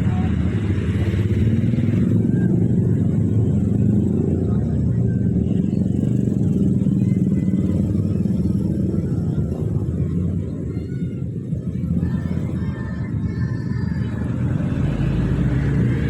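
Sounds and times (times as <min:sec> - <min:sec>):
passing train rumbling: 0:00.0 - 0:06.3, 0:06.9 - 0:16.0.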